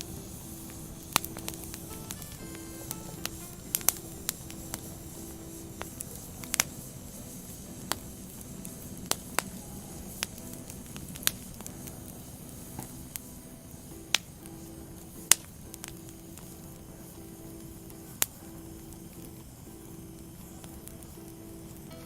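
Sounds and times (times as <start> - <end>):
firewood crackling and popping: 0.0 - 21.9.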